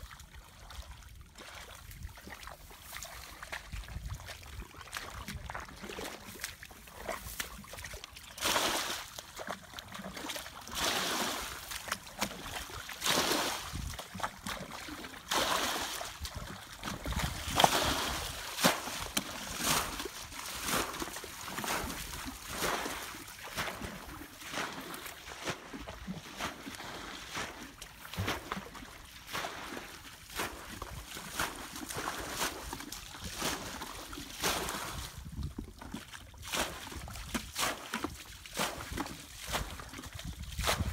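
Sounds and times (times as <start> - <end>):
muddy water splashing: 0.0 - 40.9.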